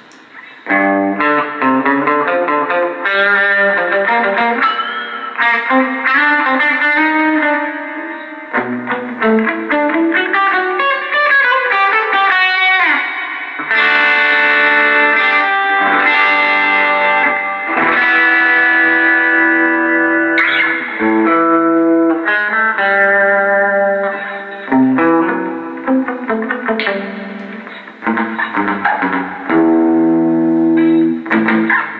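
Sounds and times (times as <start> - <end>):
distorted electric guitar: 0.0 - 31.9.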